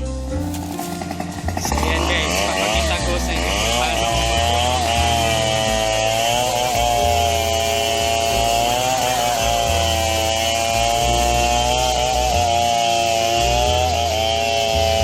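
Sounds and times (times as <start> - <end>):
small engine running at high speed: 0.2 - 15.0.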